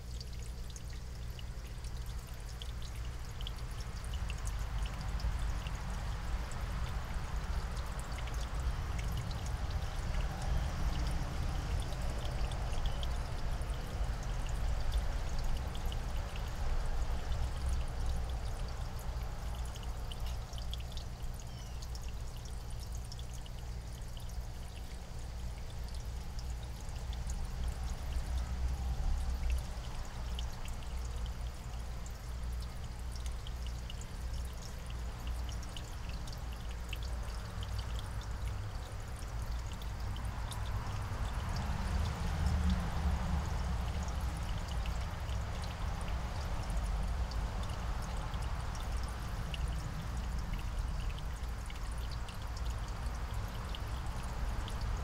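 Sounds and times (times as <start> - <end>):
faint high ticks: 0.0 - 55.0.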